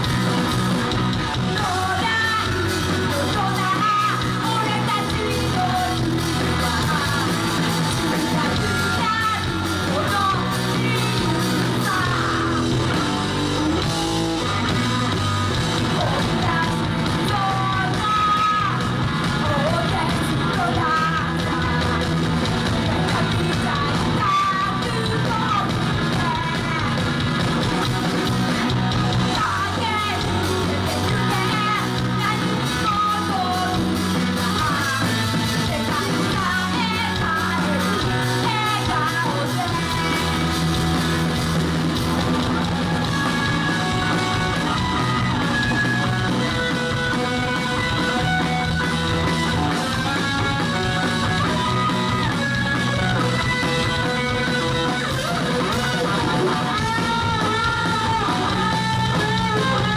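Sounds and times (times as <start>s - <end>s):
bass guitar: 0.0s - 59.9s
electric guitars: 0.0s - 59.9s
person singing: 1.3s - 12.8s, 15.8s - 27.1s, 29.3s - 40.8s, 42.6s - 59.9s.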